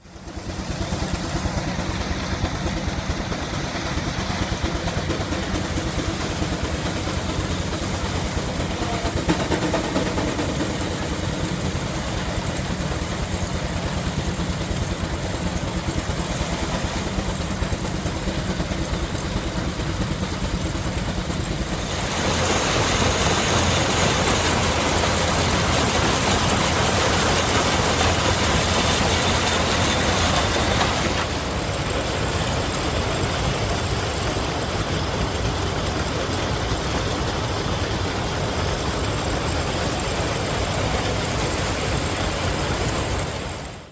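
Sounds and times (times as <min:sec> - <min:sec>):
steam engine running: 0:00.0 - 0:43.9.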